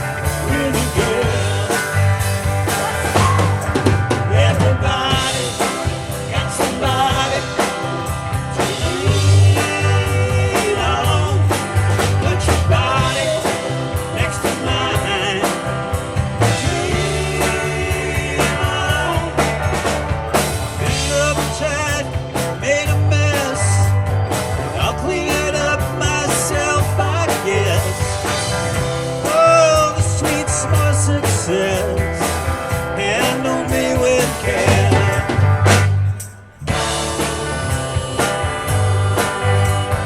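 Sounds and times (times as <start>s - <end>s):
live rock band playing: 0.0s - 40.0s
voices singing: 0.0s - 40.0s.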